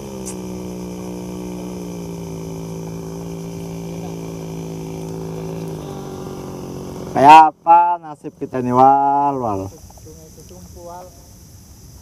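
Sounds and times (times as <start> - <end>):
outboard engine running: 0.0 - 10.9.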